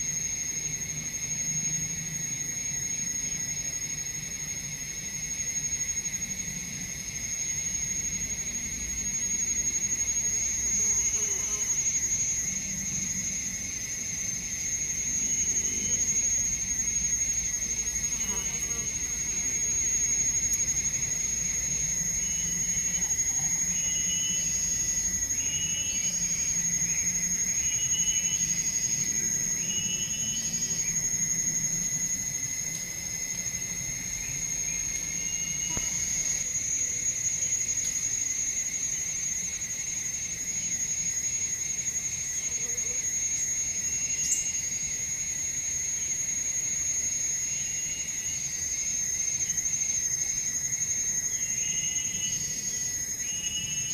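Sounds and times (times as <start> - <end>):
insects high-pitched drone: 0.0 - 53.9
low insect trill: 0.0 - 53.9.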